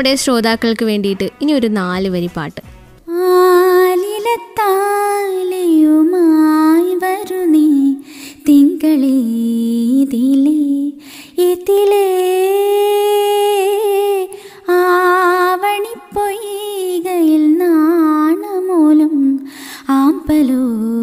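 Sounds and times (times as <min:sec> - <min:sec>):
woman singing unaccompanied: 0:03.1 - 0:21.0.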